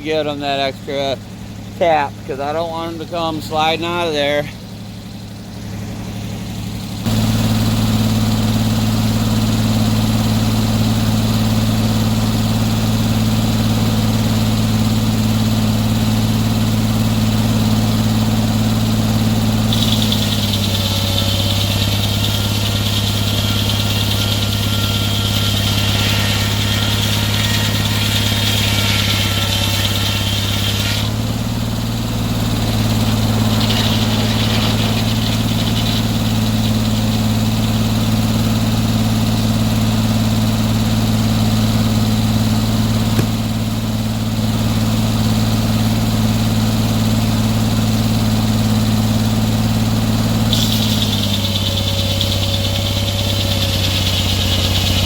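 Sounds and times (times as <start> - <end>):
saw cutting through log: 0.0 - 4.6, 7.0 - 40.0, 42.8 - 45.0, 48.3 - 55.0
sawmill engine running: 0.0 - 55.0.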